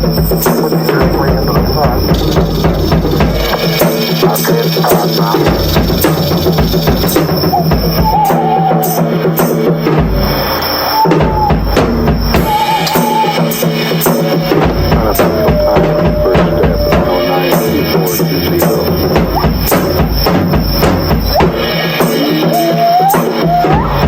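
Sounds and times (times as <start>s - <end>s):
drum kit solo: 0.0s - 24.0s
jungle sound effects: 0.0s - 24.0s
wavering high call: 0.0s - 24.0s.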